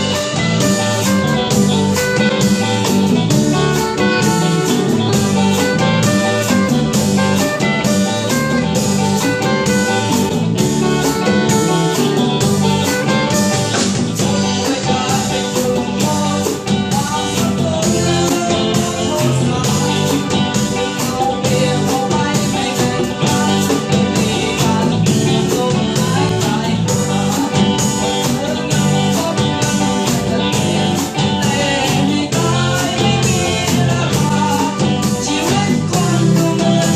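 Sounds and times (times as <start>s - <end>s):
bass guitar: 0.0s - 36.9s
drum beat: 0.0s - 36.9s
electric guitars: 0.0s - 36.9s
keyboard: 0.0s - 36.9s
person singing: 0.0s - 36.9s.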